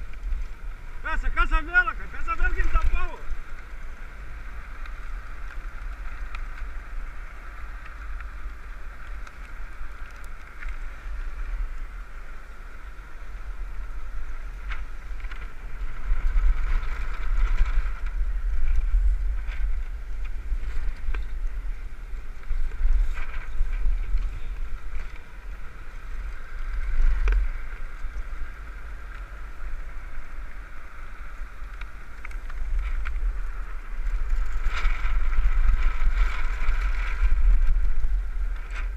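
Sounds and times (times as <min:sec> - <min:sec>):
steady hum from moving rig: 0:00.0 - 0:38.9
wind buffeting on microphone: 0:00.0 - 0:38.9.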